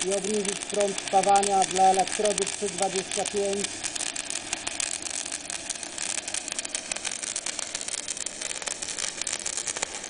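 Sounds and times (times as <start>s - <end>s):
welding arc crackling and hissing: 0.0s - 10.0s.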